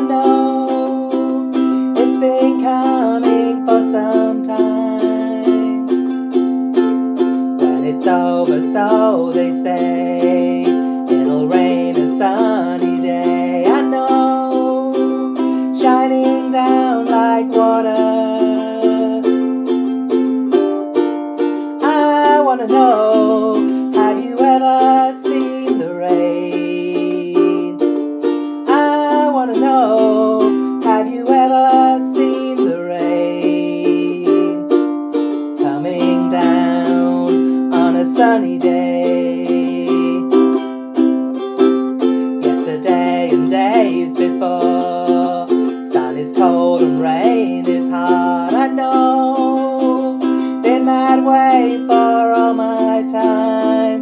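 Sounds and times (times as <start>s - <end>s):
woman singing: 0.0s - 6.2s, 7.6s - 19.6s, 21.6s - 40.8s, 42.2s - 54.0s
ukulele strumming: 0.0s - 54.0s.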